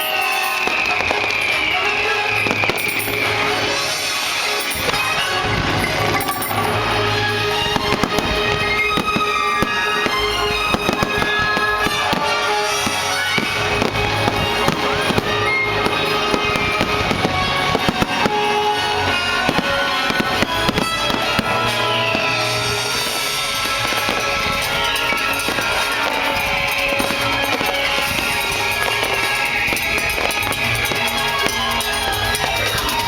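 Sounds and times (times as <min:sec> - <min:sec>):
fireworks bursting and crackling: 0:00.0 - 0:33.0
music playing: 0:00.0 - 0:33.0.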